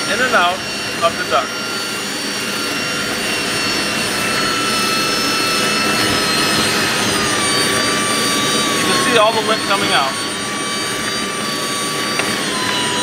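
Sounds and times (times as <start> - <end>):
cordless drill motor whine: 0.0 - 13.0.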